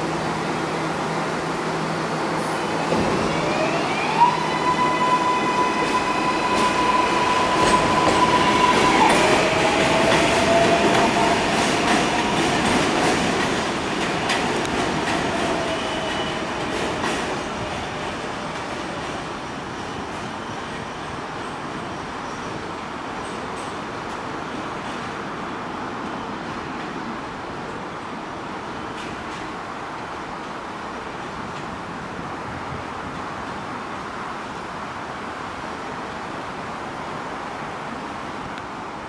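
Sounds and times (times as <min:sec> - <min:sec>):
wheels rumbling and clacking on rails: 0:00.0 - 0:39.0.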